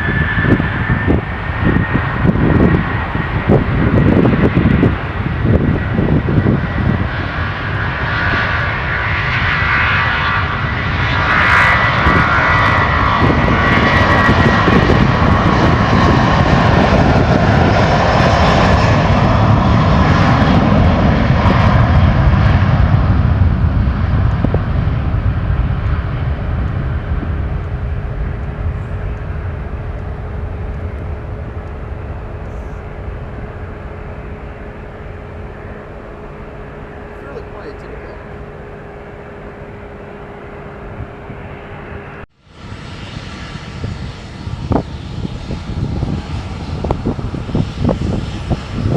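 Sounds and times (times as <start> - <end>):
aircraft engines passing: 0.0 - 48.9.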